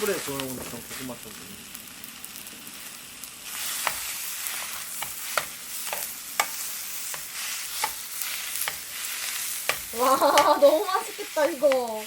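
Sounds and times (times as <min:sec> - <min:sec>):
crackling pops: 0:00.0 - 0:12.0
food sizzling over fire: 0:00.0 - 0:12.0.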